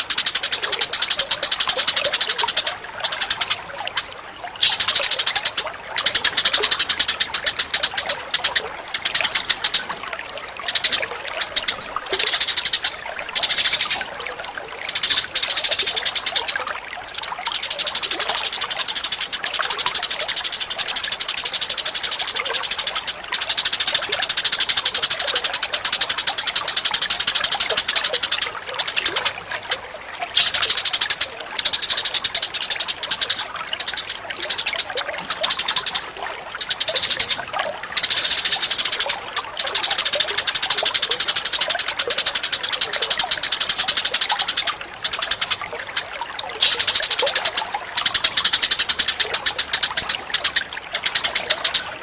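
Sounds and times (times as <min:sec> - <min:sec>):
songbird rapid chattering: 0:00.0 - 0:14.1, 0:14.8 - 0:52.0.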